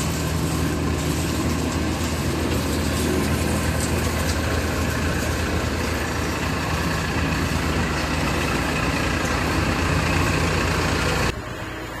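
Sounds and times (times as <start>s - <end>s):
machine running with mechanical din: 0.0s - 12.0s.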